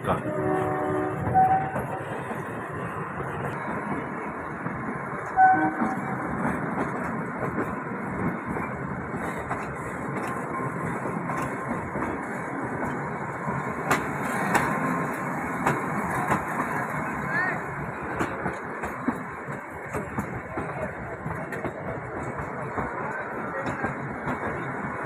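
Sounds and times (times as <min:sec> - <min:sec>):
train carriage rumbling: 0:00.0 - 0:25.0.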